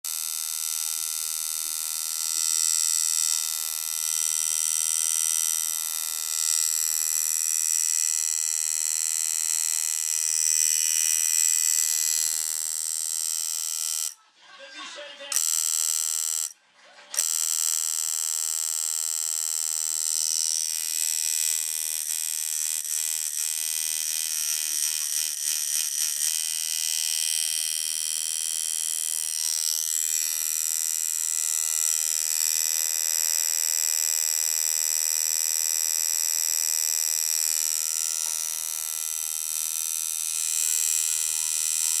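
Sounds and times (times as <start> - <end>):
tattoo machine buzzing: 0.0 - 14.2, 15.3 - 42.0.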